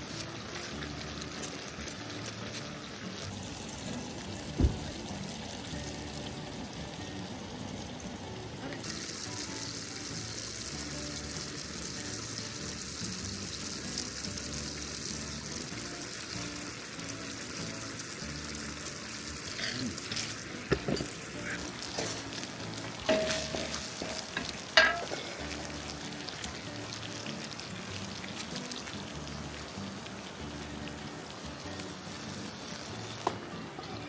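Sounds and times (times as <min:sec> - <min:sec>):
background music: 0:00.0 - 0:34.0
food sizzling in a hot pan: 0:00.0 - 0:34.0.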